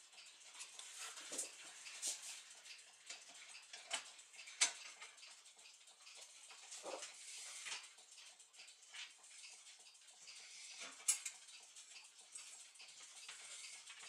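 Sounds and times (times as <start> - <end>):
light metallic clicks and taps: 0.2 - 14.0.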